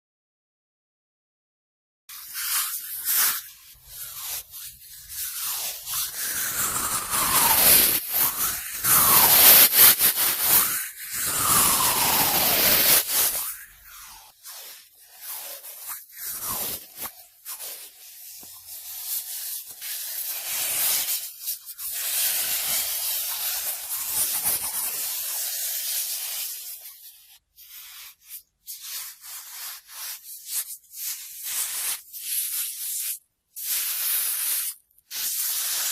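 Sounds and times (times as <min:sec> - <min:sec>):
cotton swab rubbing in microphone: 0:02.1 - 0:35.9.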